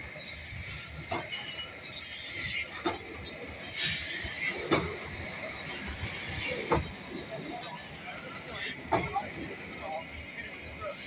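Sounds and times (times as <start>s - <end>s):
steam hissing: 0.0s - 11.0s
steam locomotive moving slowly: 0.0s - 11.0s.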